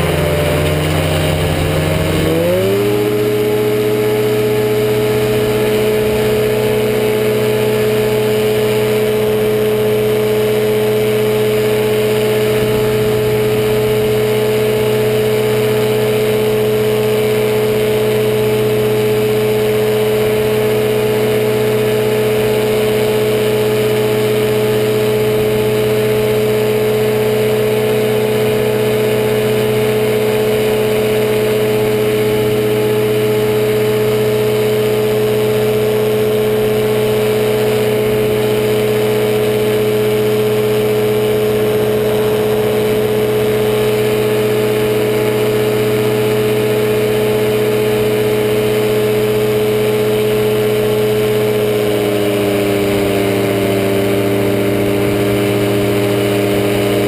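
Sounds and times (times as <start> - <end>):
engine and propeller drone: 0.0 - 57.0.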